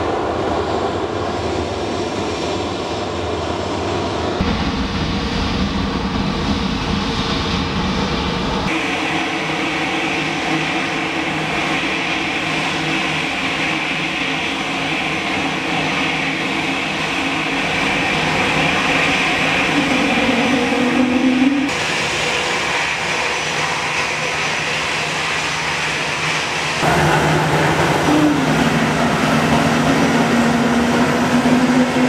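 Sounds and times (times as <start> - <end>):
jet engines whining at idle: 0.0 - 32.0
low drone: 4.4 - 32.0.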